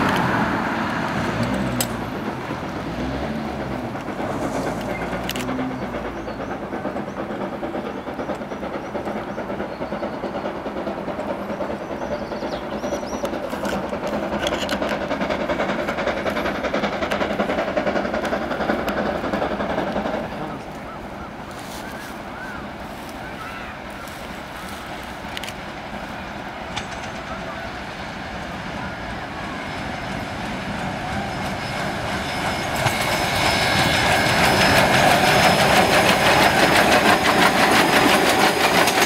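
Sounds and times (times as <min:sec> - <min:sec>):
steam locomotive exhaust: 0:00.0 - 0:39.0.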